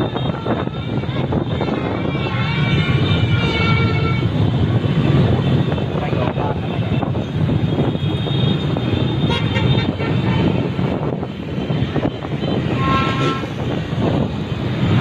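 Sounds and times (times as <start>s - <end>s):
motorbike and scooter engines: 0.0s - 15.0s.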